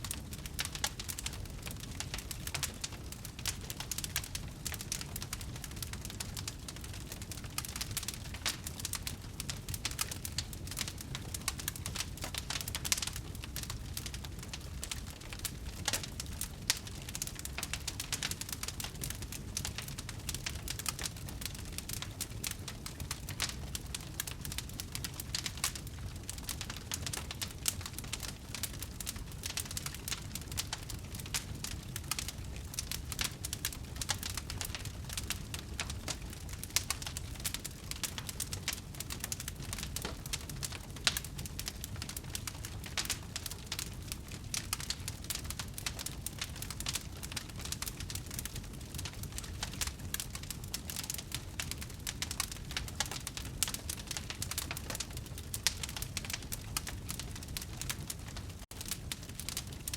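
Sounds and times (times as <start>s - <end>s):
loud fire snaps: 0.0s - 59.9s
wood fire crackling: 0.0s - 59.9s.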